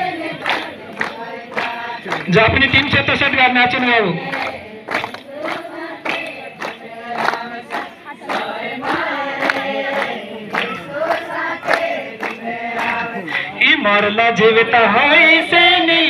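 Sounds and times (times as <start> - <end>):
group of voices singing: 0.0 - 2.9, 3.7 - 14.1.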